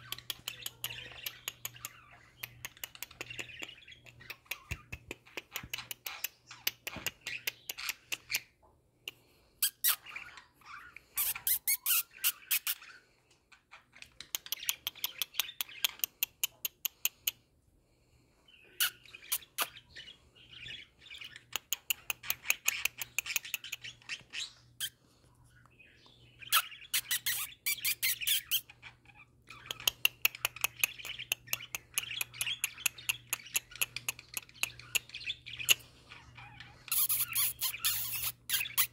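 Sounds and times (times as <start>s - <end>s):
budgerigars chattering and warbling: 0.0s - 17.4s, 18.4s - 25.0s, 25.6s - 38.9s.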